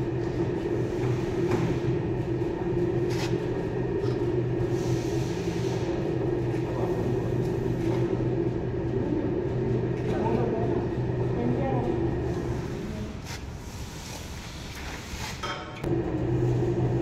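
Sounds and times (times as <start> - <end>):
bending machine motor running: 0.0 - 13.2, 15.9 - 17.0.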